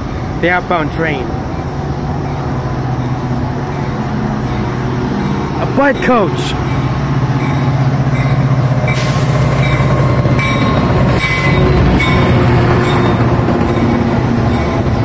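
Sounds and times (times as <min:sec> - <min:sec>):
diesel locomotive engine drone: 0:00.0 - 0:15.0
passenger coaches rolling past: 0:00.0 - 0:15.0.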